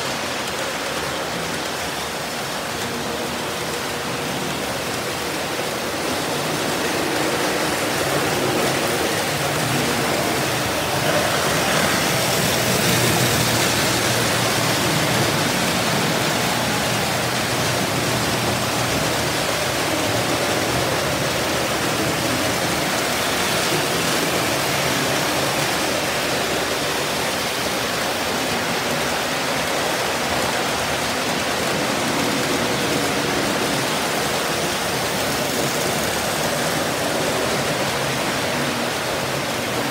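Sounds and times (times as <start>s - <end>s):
toy trains running on track: 0.0s - 39.9s.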